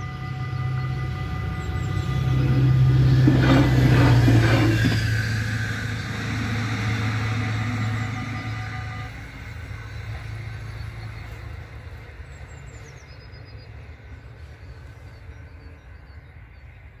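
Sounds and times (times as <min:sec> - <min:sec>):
faint high whistling notes: 0:00.0 - 0:16.9
diesel railcar rumble: 0:00.0 - 0:17.0.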